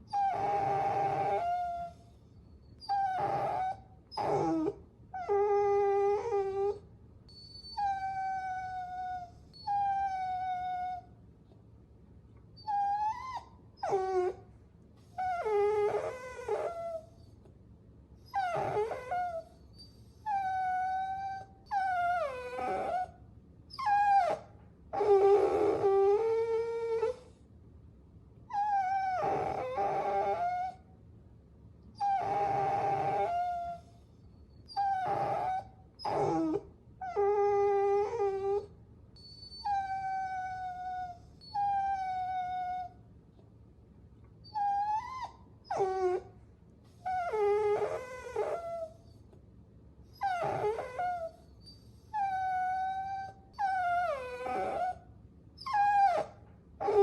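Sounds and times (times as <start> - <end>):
puppies whining: 0.0 - 11.1, 12.6 - 14.4, 15.0 - 17.4, 18.3 - 27.4, 28.5 - 30.8, 32.0 - 43.0, 44.4 - 46.3, 46.9 - 49.3, 50.1 - 57.0.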